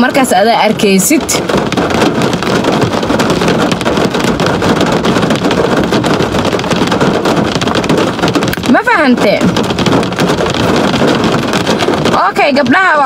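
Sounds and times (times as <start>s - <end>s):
fine crackle: 0.0s - 13.0s
loud rushing noise in car cabin: 0.0s - 13.0s.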